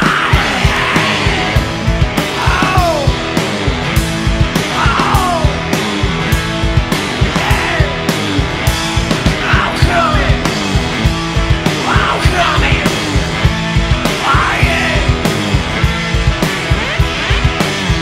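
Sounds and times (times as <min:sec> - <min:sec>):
driving drumbeat with cymbals: 0:00.0 - 0:18.0.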